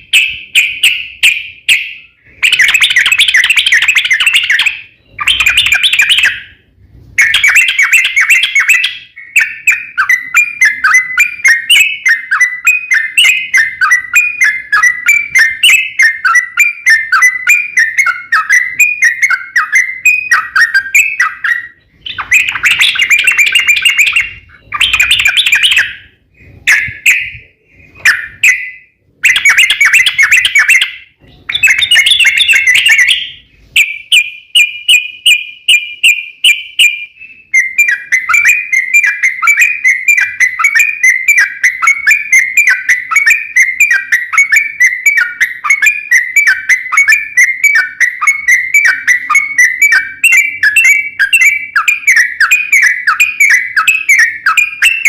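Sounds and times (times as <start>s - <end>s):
bulbul singing: 0.0s - 55.0s.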